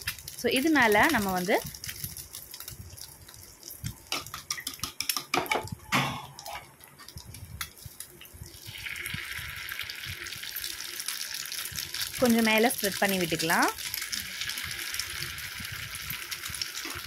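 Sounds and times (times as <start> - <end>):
crackling pops of frying: 0.0 - 17.0
steady sizzle: 0.0 - 17.0.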